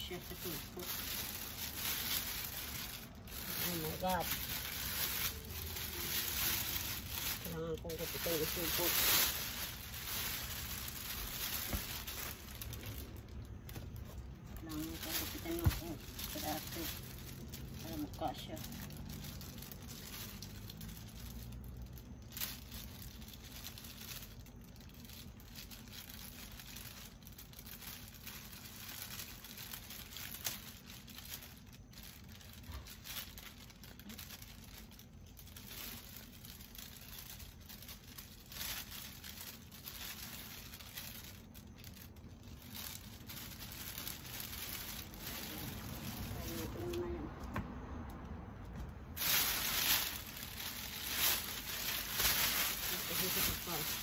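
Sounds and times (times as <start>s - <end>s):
plastic wrapping crinkling: 0.0s - 54.0s.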